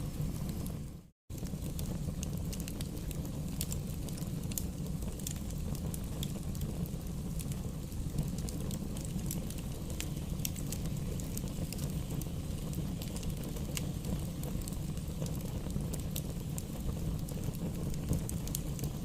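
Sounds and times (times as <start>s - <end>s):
burning logs crackling: 0.0s - 19.0s
fire rumbling: 0.0s - 19.0s.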